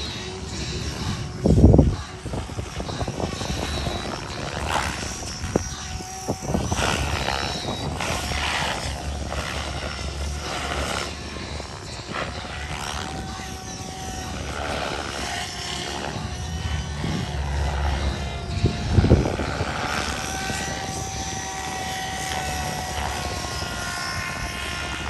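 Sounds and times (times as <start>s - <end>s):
rc helicopter rotor noise: 0.0s - 25.0s.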